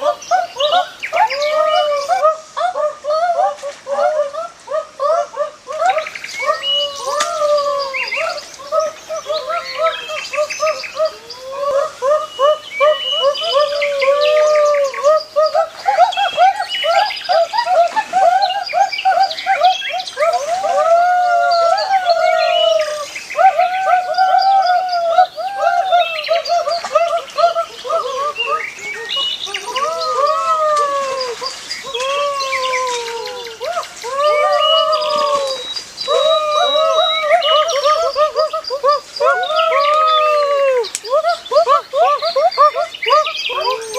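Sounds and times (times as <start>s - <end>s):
chorus of animal calls: 0.0s - 43.9s.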